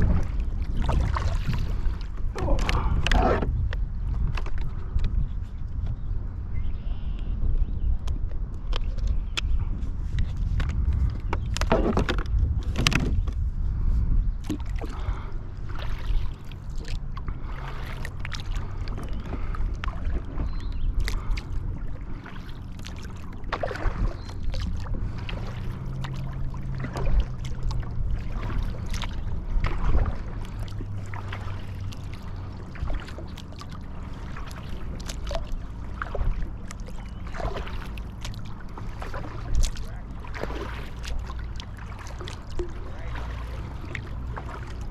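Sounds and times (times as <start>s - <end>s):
paddle strokes: 0.0s - 6.0s, 8.1s - 44.9s
low rumble: 0.0s - 44.9s
water splashing and sloshing: 0.0s - 44.9s.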